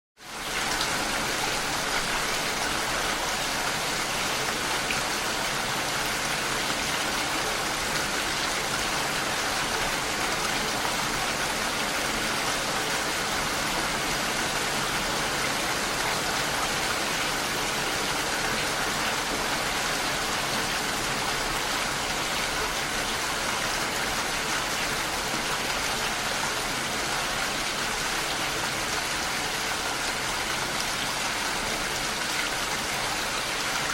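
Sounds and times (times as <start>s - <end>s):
steady rainfall: 0.2s - 33.9s.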